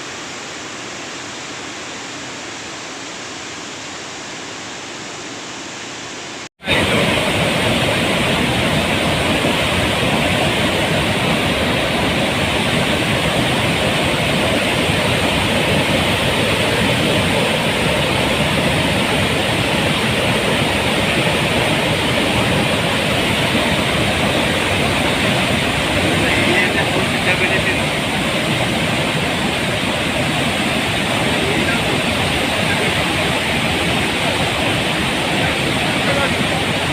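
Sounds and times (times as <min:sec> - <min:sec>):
water rushing through dam gates: 0:06.6 - 0:36.9.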